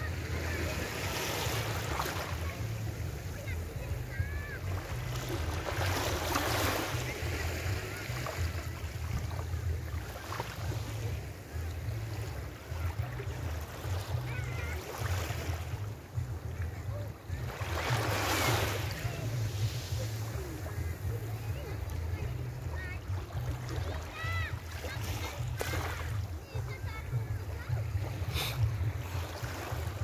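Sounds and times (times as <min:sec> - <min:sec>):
small waves lapping on sand: 0:00.0 - 0:30.0.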